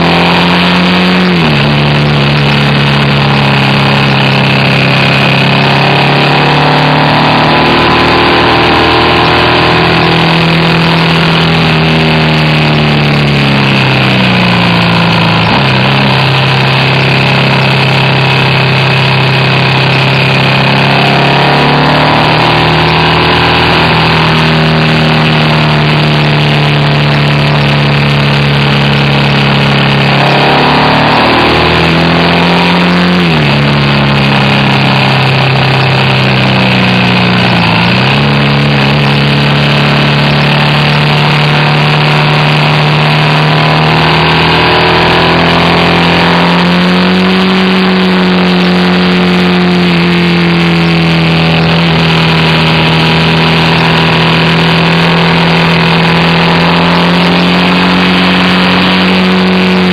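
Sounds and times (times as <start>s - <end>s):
motorcycle engine pulling: 0.0s - 59.9s
wind and road noise: 0.0s - 59.9s.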